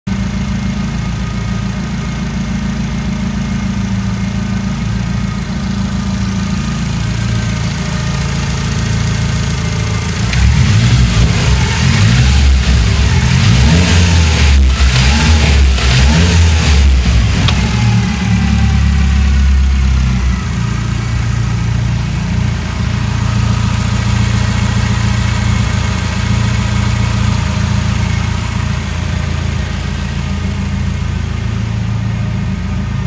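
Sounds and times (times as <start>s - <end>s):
car engine idling and revving: 0.1s - 33.0s.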